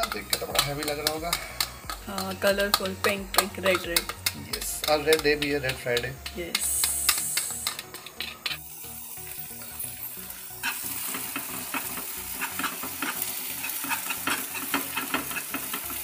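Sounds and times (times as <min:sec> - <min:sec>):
whisk scraping and clicking on pan: 0:00.0 - 0:08.7, 0:10.6 - 0:16.0
egg mixture sizzling: 0:00.0 - 0:16.0.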